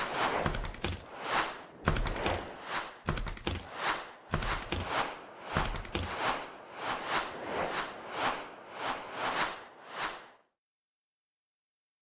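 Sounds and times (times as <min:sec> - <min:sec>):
whooshing swishes: 0:00.0 - 0:10.6.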